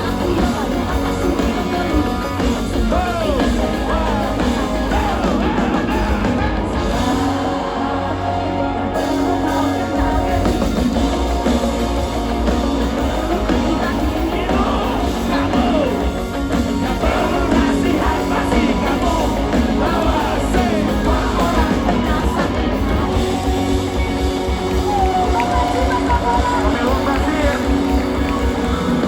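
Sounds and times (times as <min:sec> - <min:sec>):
live band playing rock music: 0:00.0 - 0:29.0
person singing: 0:00.0 - 0:29.0.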